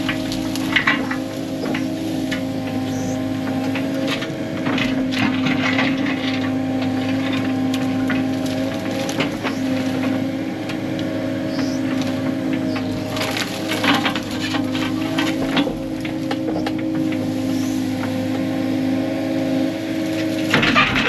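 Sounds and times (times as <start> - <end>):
branches cracking and snapping: 0.0 - 21.0
diesel engine running: 0.0 - 21.0.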